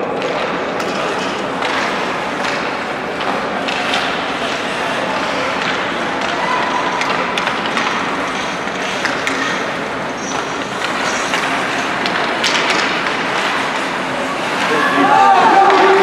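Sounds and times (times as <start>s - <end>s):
hockey sticks and skates clacking: 0.0s - 16.0s.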